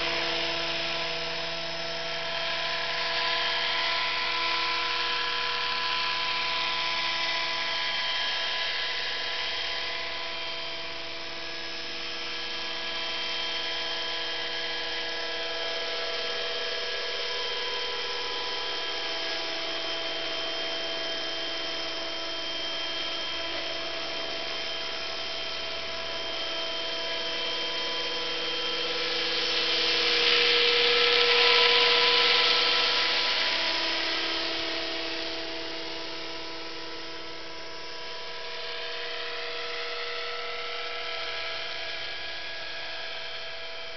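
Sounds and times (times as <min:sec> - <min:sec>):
model helicopter motor whine: 0:00.0 - 0:43.9.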